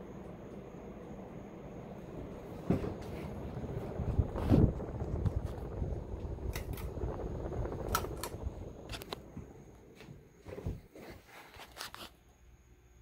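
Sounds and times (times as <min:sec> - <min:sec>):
ceiling fan air rumble: 0:00.0 - 0:13.0.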